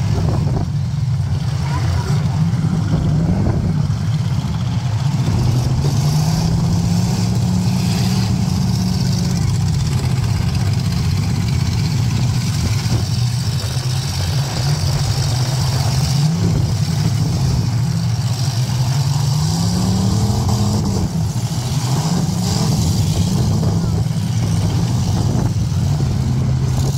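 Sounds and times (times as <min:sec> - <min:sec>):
car engines revving: 0:00.0 - 0:26.9.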